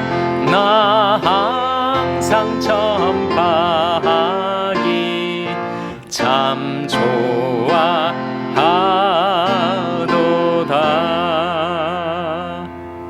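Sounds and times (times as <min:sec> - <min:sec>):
instrumental accompaniment: 0:00.0 - 0:13.0
person singing hymn with vibrato: 0:00.0 - 0:13.0.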